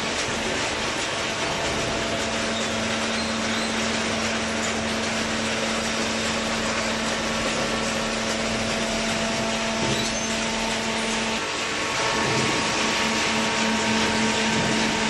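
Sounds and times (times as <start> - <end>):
baler machine hum: 0.0 - 15.0
loud mechanical noise: 0.0 - 15.0.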